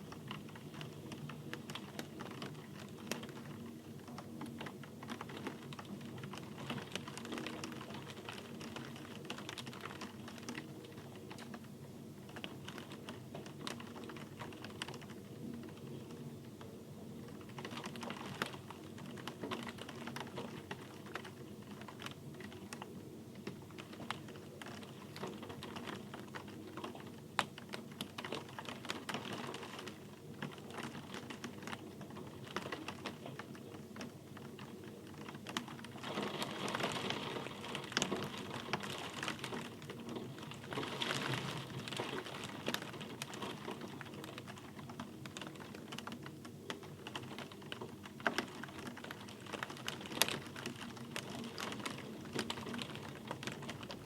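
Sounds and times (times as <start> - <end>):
rain falling: 0.0 - 11.6, 17.2 - 54.0.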